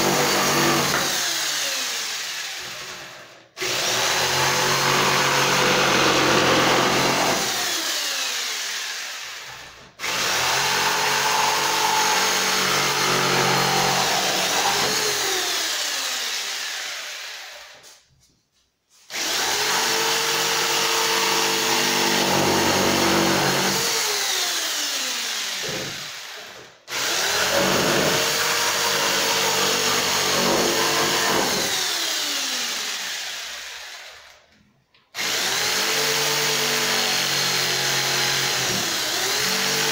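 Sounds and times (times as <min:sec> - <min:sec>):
electric circular saw running: 0:03.6 - 0:17.7, 0:19.1 - 0:34.4, 0:35.2 - 0:39.9.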